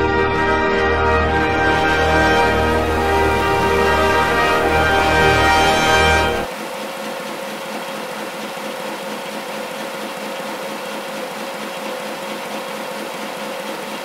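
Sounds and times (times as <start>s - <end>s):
constant machine hum: 0.0s - 14.0s.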